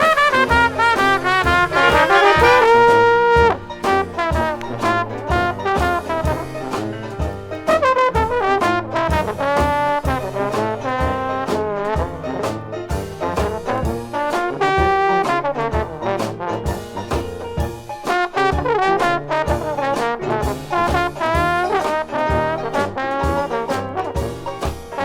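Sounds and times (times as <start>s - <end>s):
jazz band playing: 0.0s - 25.0s.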